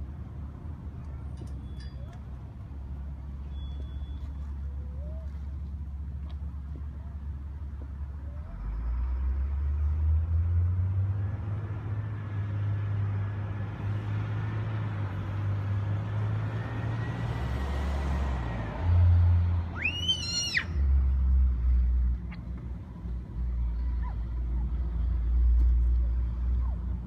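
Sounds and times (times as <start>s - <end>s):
road vehicle passing: 2.0s - 27.0s.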